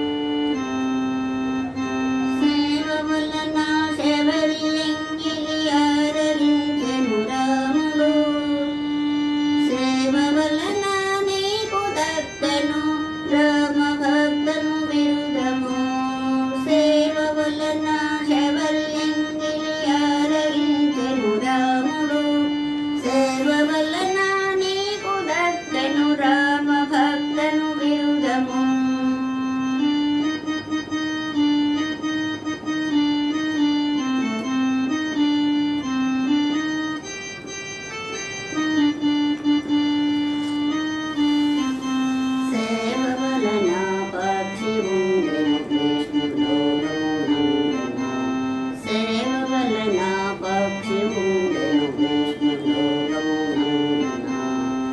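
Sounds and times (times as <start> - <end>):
electronic keyboard organ melody: 0.0 - 54.9.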